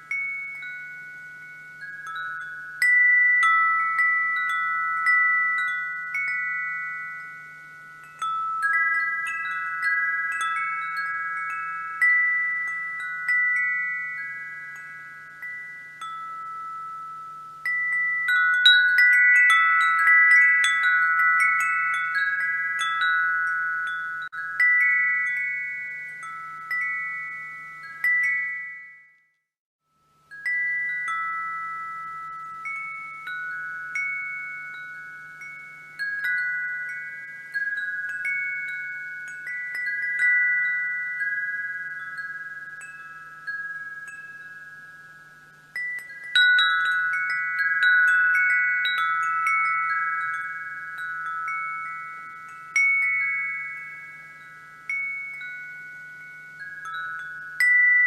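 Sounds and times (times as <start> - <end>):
wind chimes ringing: 0.0 - 58.0.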